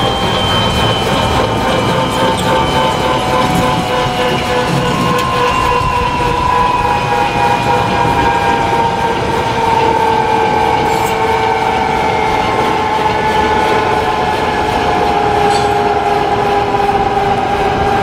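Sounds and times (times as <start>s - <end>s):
helicopter rotor beating: 0.0s - 18.0s
helicopter turbine whine: 0.0s - 18.0s.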